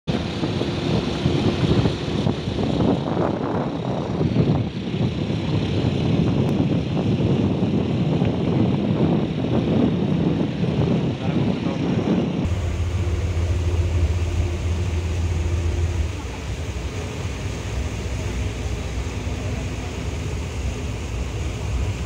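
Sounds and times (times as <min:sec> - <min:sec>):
vehicle road and wind noise: 0:00.1 - 0:22.0.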